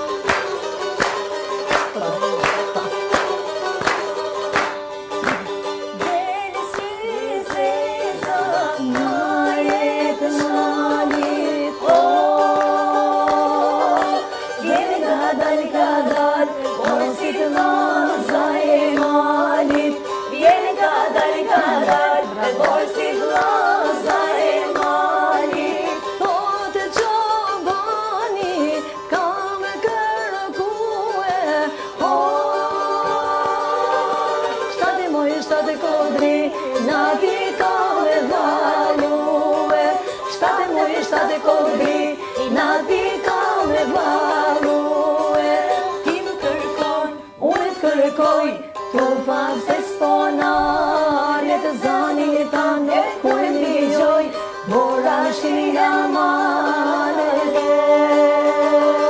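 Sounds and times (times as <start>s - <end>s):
women singing folk song: 0.0s - 59.0s.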